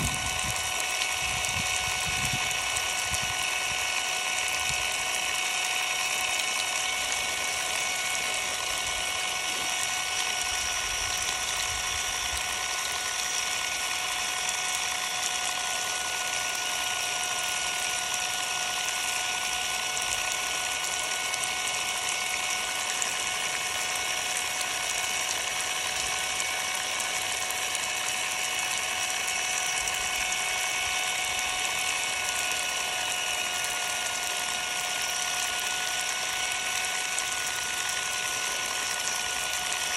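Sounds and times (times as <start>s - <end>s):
impact driver motor whine: 0.0s - 39.9s.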